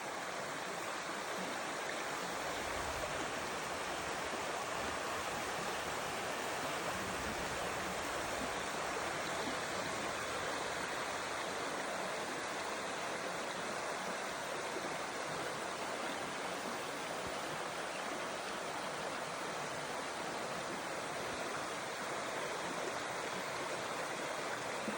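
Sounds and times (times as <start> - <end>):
stream and waterfall flowing: 0.0 - 24.9.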